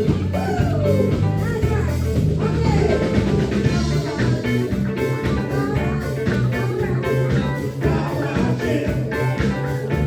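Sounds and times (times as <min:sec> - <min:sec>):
electric guitar: 0:00.0 - 0:10.0
live funk band: 0:00.0 - 0:10.0.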